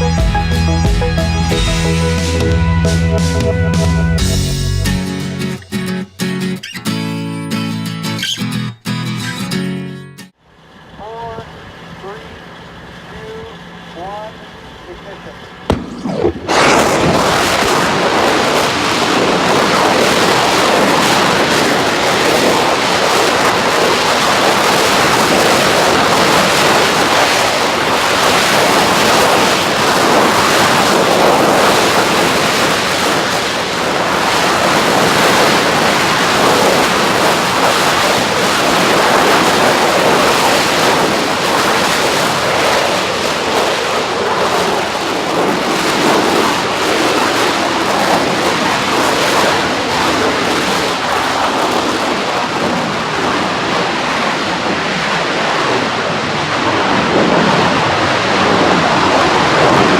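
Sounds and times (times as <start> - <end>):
rocket engine roaring: 10.6 - 59.9.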